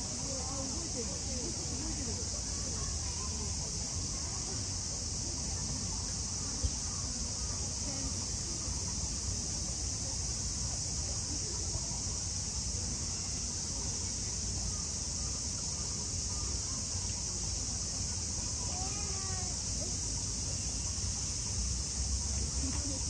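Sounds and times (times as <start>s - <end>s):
cicadas droning: 0.0s - 23.0s.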